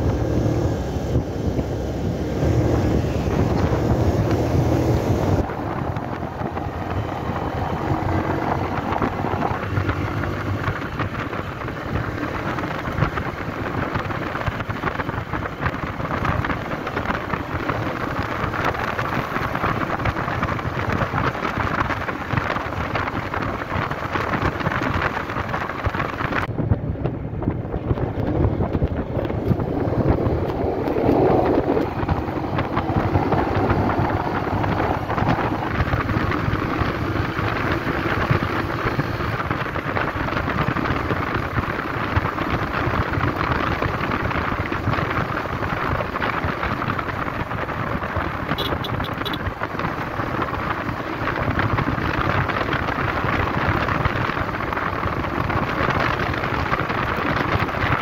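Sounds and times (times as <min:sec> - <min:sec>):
motorcycle engine: 0:00.0 - 0:58.0
tyre noise: 0:00.0 - 0:58.0
wind buffeting microphone: 0:00.0 - 0:58.0.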